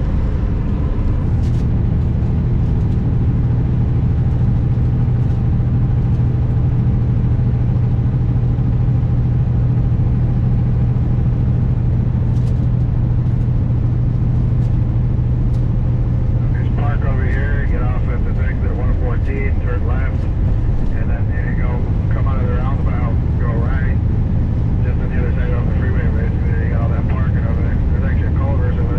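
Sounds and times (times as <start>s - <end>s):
road and wind noise: 0.0s - 28.9s
truck diesel engine running: 0.0s - 28.9s.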